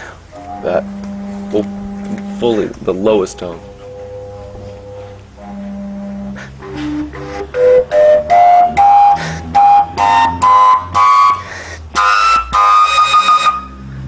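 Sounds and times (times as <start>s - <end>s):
breathy overtone flute notes: 0.0s - 14.0s.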